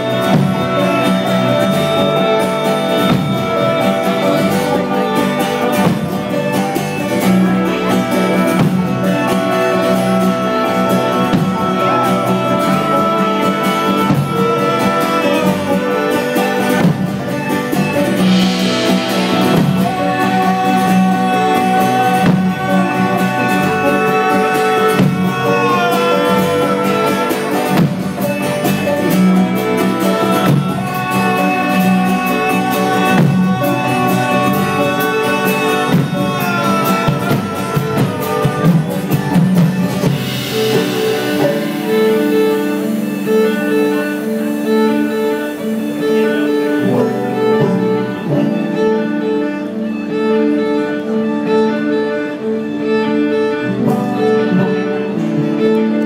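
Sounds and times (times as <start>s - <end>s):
live instrumental band music: 0.0s - 56.0s
plucked guitar: 0.0s - 56.0s
hissing swell: 0.7s - 50.4s.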